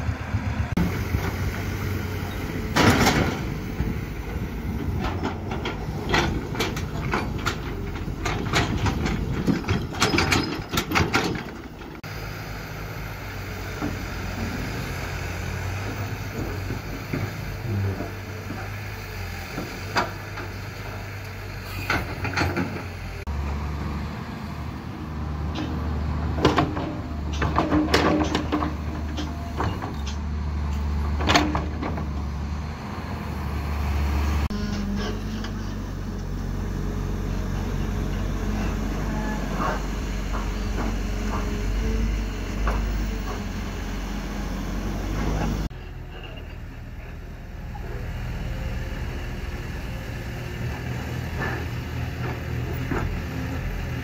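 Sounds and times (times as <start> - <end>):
excavator diesel engines: 0.0 - 54.0.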